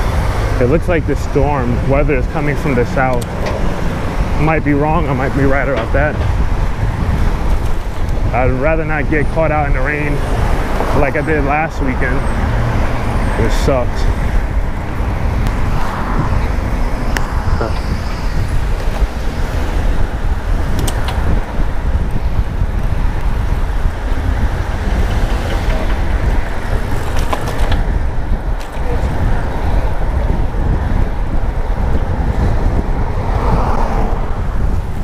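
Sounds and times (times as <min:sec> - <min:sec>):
road traffic noise: 0:00.0 - 0:35.0
wind buffeting microphone: 0:00.0 - 0:35.0.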